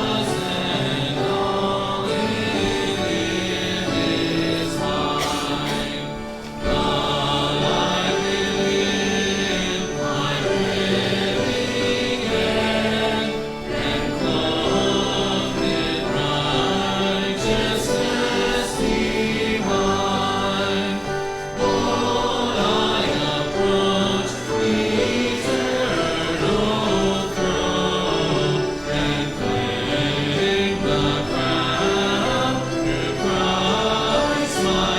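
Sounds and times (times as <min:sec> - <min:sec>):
choir singing a hymn: 0:00.0 - 0:34.9.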